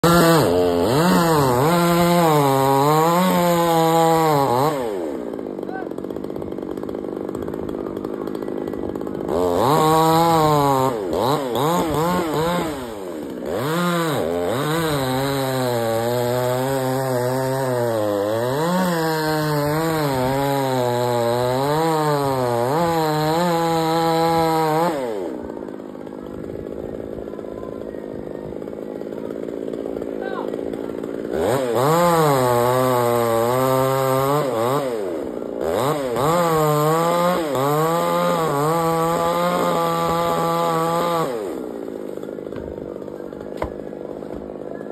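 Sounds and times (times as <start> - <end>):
chainsaw idling and cutting wood: 0.0 - 44.9.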